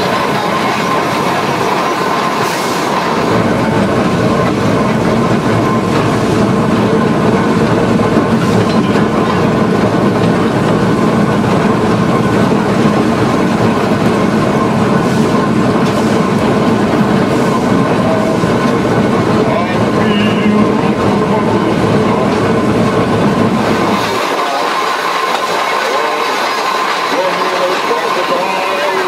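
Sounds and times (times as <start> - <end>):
steam locomotive wheels clattering: 0.0 - 29.0.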